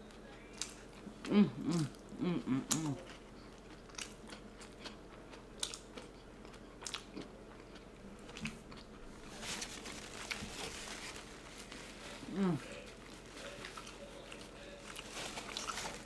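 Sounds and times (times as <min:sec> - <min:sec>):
biting and chewing food: 0:00.1 - 0:16.0.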